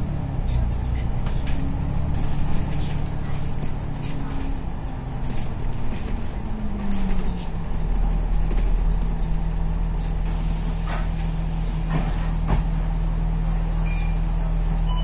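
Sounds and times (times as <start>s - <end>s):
bus engine: 0.0s - 15.0s.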